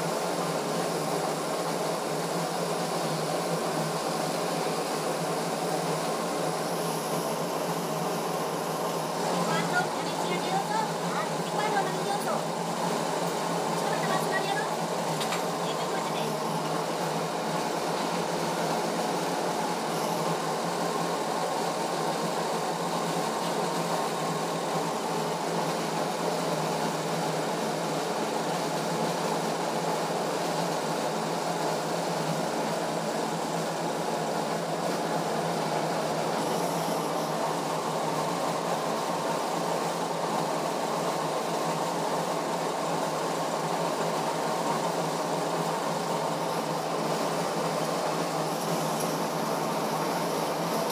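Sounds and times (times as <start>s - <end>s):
test bench machine running: 0.0s - 50.9s.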